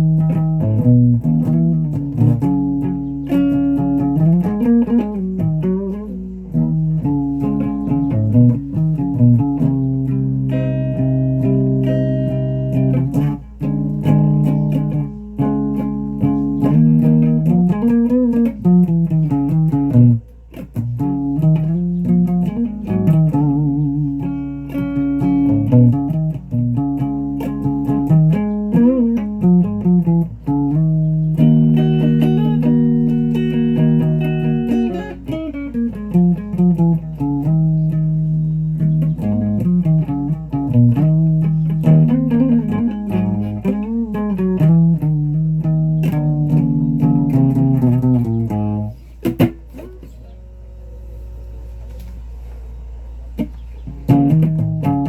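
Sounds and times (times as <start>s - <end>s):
guitar plucked notes: 0.0s - 55.0s.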